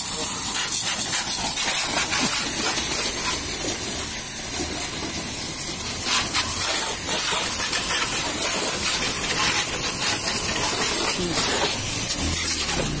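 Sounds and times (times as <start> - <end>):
pressure washer jet hissing: 0.0 - 13.0.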